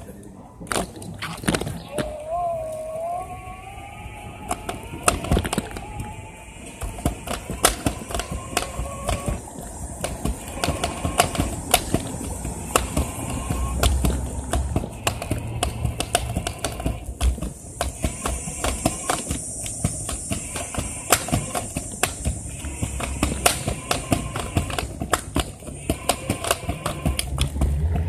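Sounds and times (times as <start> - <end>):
rising whine: 1.4 - 28.0
scooter wheels rattling on pavement: 4.2 - 28.0.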